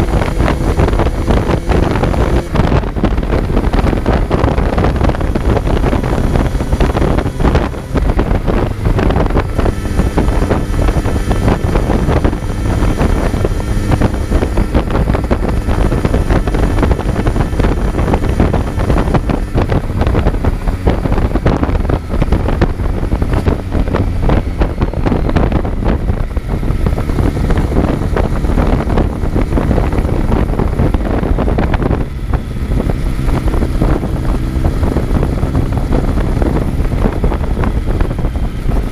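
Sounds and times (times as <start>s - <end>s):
motorcycle engine revving: 0.0s - 38.9s
wind rushing over microphone: 0.0s - 38.9s.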